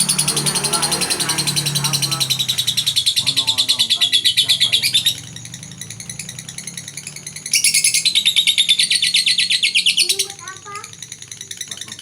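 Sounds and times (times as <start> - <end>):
lovebird chattering trill: 0.0 - 12.0.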